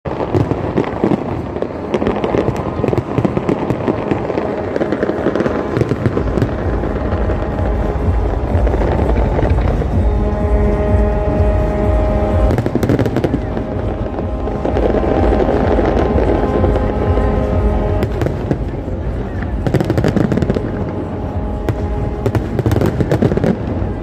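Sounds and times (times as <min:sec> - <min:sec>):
fireworks crackling and popping: 0:00.0 - 0:24.0
deep fireworks booms: 0:00.1 - 0:24.0
music playing: 0:00.1 - 0:24.0.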